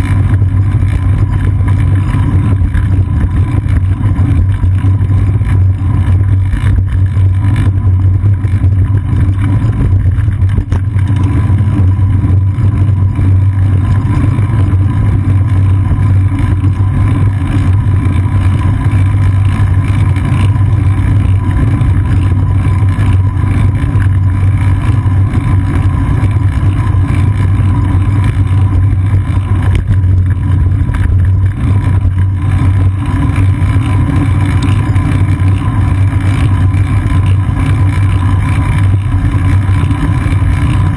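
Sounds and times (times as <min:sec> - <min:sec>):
bicycle road vibration rumble: 0:00.0 - 0:40.9
wind buffeting the camera: 0:00.0 - 0:40.9.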